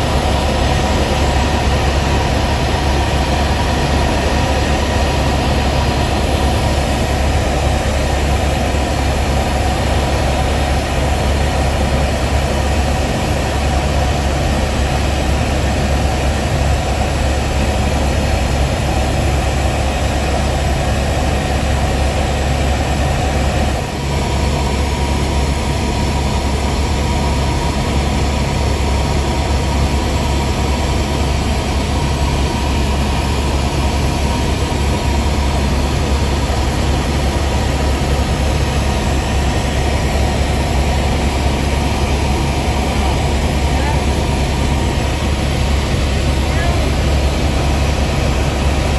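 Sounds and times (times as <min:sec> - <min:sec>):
helicopter rotor and turbine drone: 0:00.0 - 0:48.9.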